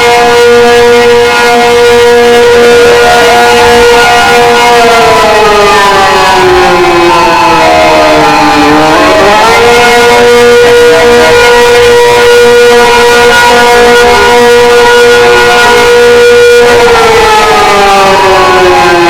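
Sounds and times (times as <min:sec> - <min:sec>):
tornado siren wailing: 0:00.0 - 0:19.0.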